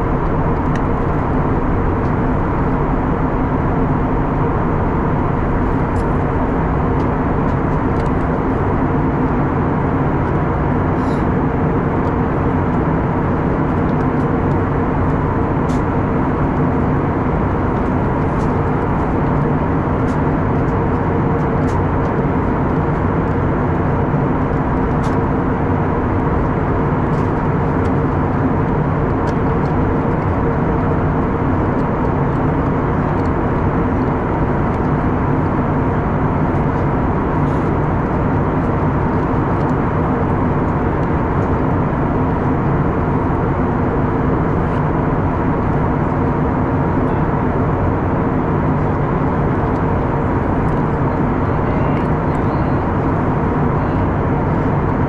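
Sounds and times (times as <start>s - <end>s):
aircraft engine drone: 0.0s - 55.0s
constant cabin hum: 0.0s - 55.0s.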